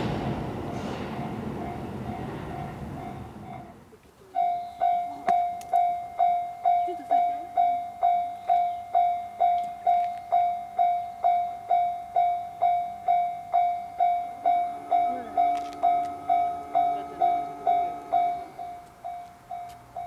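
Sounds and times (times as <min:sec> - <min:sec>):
level crossing warning bell: 0:00.1 - 0:20.0.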